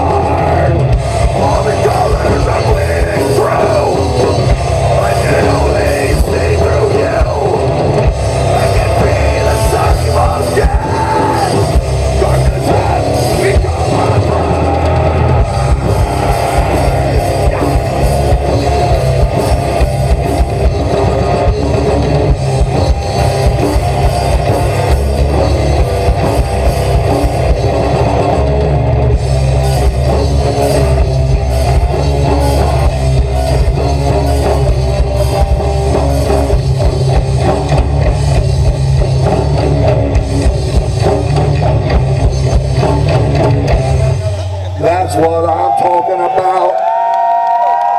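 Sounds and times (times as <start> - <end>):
drum kit: 0.0 - 45.7
bass guitar: 0.0 - 47.9
distorted electric guitars: 0.0 - 47.9.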